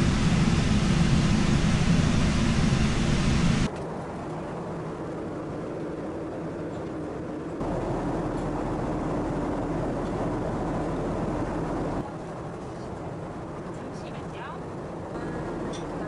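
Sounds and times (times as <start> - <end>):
airliner cabin engine roar: 0.0 - 16.0.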